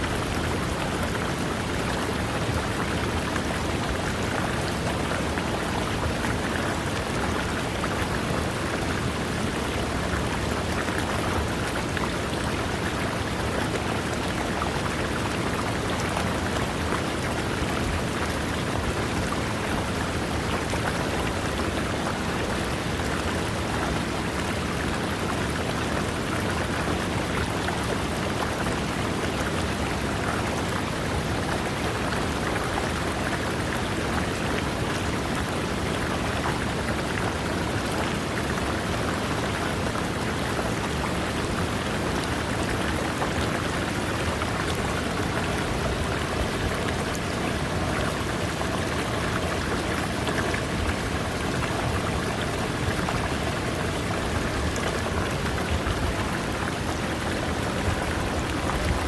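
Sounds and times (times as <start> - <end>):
river water running over rocks: 0.0 - 59.0.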